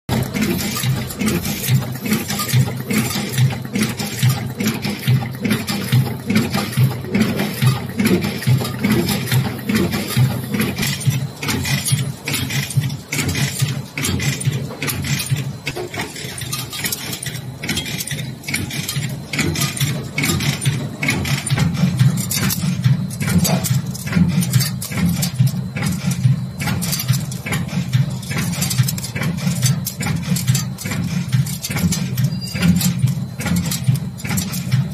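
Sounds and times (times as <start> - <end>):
low machine hum: 0.1 - 34.9
rapid metallic clacking: 0.1 - 34.9.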